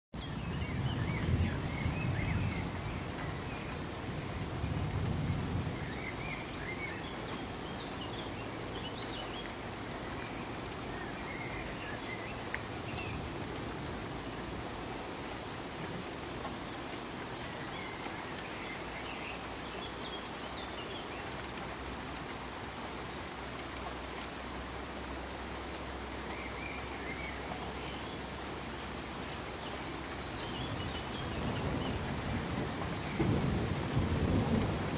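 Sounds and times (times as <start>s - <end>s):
rain hissing: 0.2s - 34.9s.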